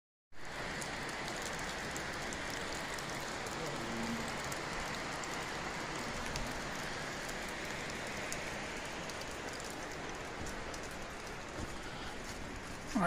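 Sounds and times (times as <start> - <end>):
creek water rushing: 0.5 - 13.0.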